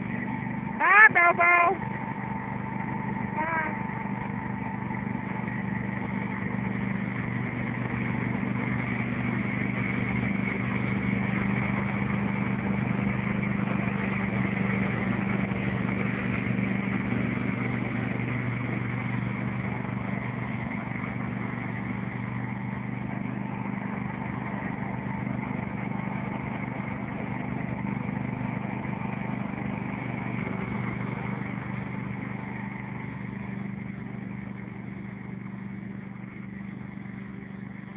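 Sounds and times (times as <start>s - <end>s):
riding lawnmower engine: 0.0s - 37.9s.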